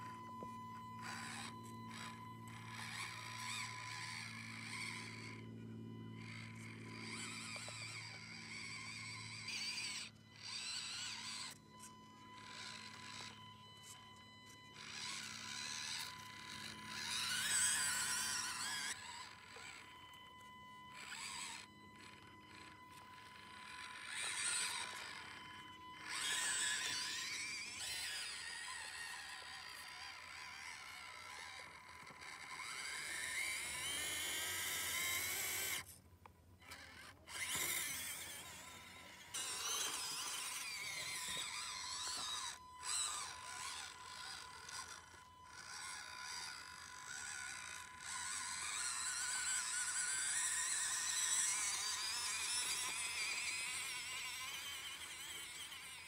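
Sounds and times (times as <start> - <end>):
toy car electric motor whining: 0.0 - 56.0.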